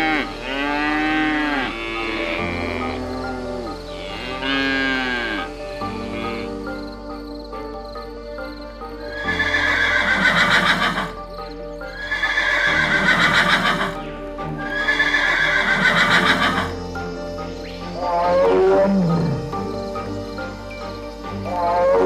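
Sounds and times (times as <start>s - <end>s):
quavering animal calls: 0.0s - 6.8s, 9.1s - 11.1s, 12.0s - 22.0s
background music: 0.0s - 22.0s.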